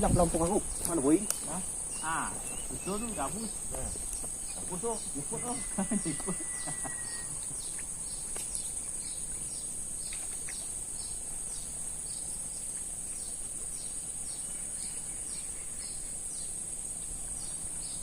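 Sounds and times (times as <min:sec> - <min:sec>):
bird chirping: 0:00.0 - 0:18.0
high-pitched insect drone: 0:00.0 - 0:18.0.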